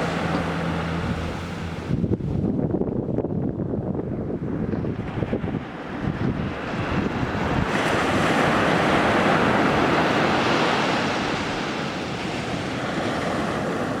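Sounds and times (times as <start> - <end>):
sea wave surging and washing away: 0.0 - 2.3, 4.9 - 14.0
wind buffeting microphone: 0.0 - 14.0.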